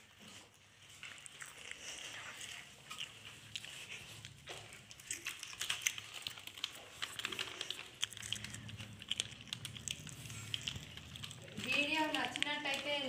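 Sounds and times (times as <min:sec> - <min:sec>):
faint low hum: 0:00.0 - 0:13.0
plastic snack packet crinkling: 0:00.8 - 0:13.0.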